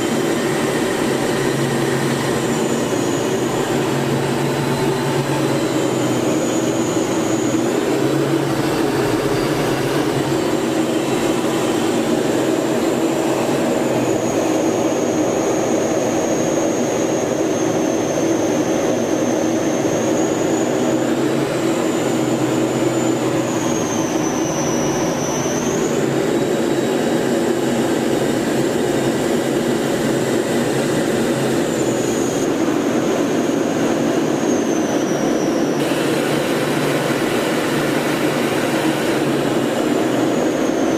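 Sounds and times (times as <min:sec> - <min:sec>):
high turbine whine: 0:00.0 - 0:40.9
jet engine and airflow roar: 0:00.0 - 0:40.9.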